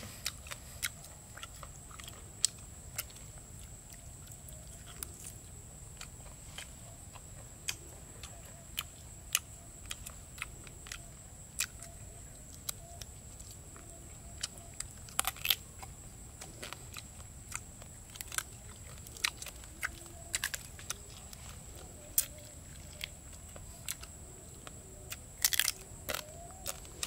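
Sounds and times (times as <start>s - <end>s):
man chewing and crunching food: 0.0s - 27.0s.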